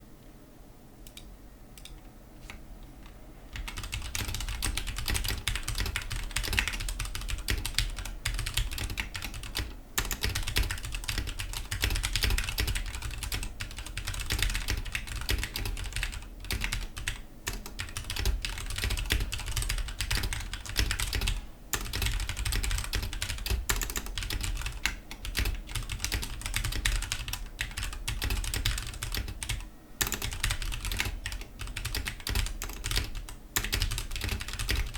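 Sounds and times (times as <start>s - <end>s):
mechanical keyboard typing: 3.0s - 34.9s.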